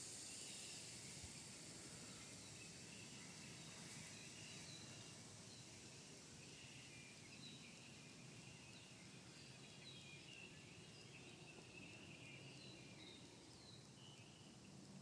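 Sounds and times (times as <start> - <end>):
faint woodland ambience: 0.0 - 15.0.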